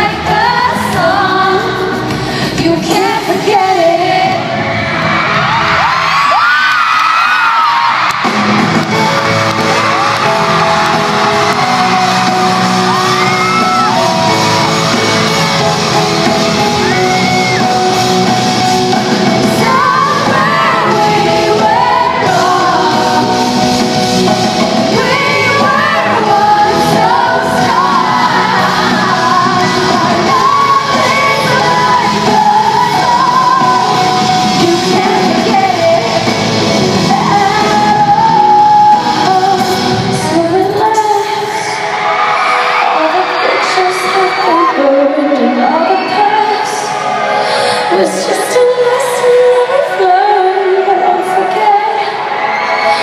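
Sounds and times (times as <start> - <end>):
fans shouting and singing along: 0.0 - 53.0
pop-rock band playing: 0.0 - 53.0
woman singing lead: 0.0 - 53.0.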